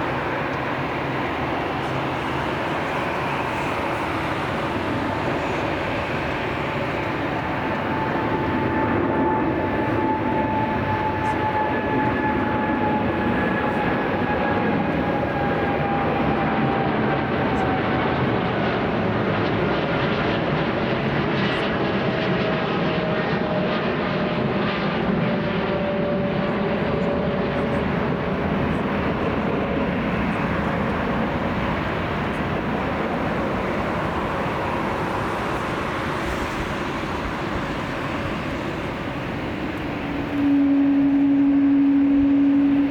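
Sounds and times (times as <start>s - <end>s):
jet engines rushing and whining: 0.0s - 42.9s.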